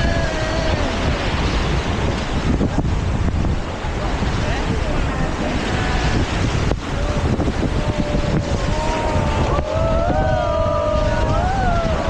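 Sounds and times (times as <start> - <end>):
heavy low rumble: 0.0 - 12.0
wind buffeting microphone: 0.0 - 12.0.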